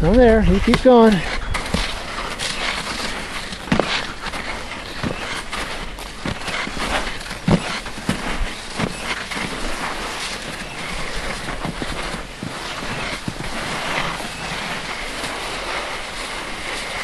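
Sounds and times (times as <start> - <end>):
skis sliding over packed snow: 0.0 - 17.0
wind on microphone: 0.0 - 17.0.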